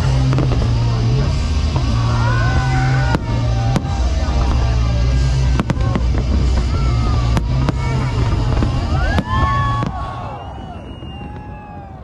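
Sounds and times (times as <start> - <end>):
loud music with heavy bass: 0.0 - 10.4
fireworks bursting: 0.0 - 12.0.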